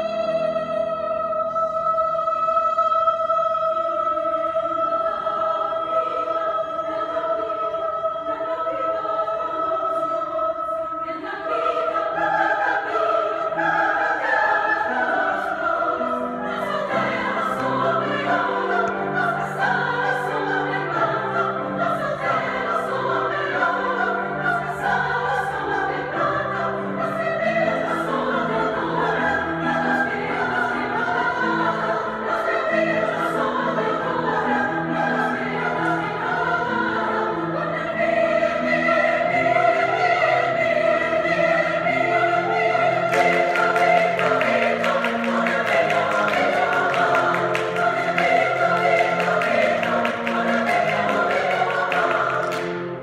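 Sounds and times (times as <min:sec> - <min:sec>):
choir singing: 0:00.0 - 0:53.0
grand piano accompaniment: 0:00.0 - 0:53.0.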